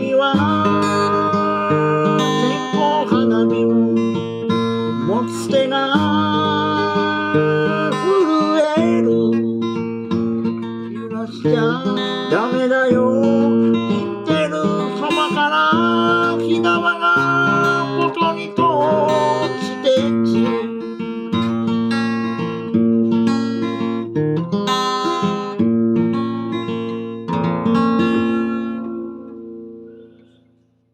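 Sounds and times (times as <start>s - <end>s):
acoustic guitar strumming chords: 0.0s - 30.6s.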